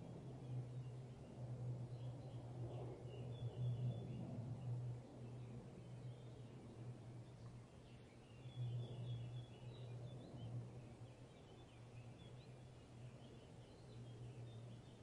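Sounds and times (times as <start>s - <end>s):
small birds chirping: 0.4s - 15.0s.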